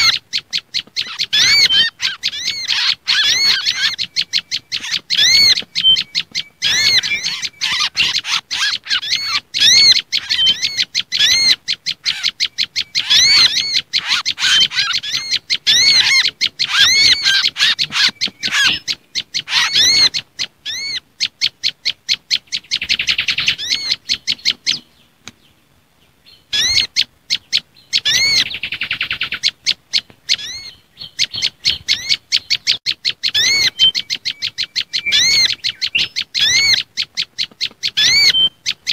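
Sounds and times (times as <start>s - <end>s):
buzzy bird trills: 0.0s - 24.9s, 26.3s - 38.9s
bird alarm chatter: 0.0s - 25.6s, 26.2s - 38.9s
songbird calls: 0.0s - 38.9s.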